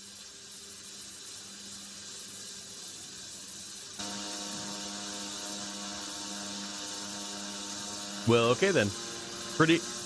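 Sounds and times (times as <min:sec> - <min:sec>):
compressed air hissing: 0:00.0 - 0:10.0
steady hum of spinning apple: 0:00.0 - 0:10.0.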